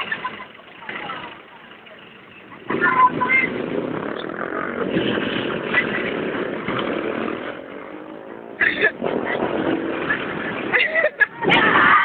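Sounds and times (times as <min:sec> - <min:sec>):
vehicle engine running: 0:00.0 - 0:11.5
street traffic noise: 0:00.0 - 0:12.0.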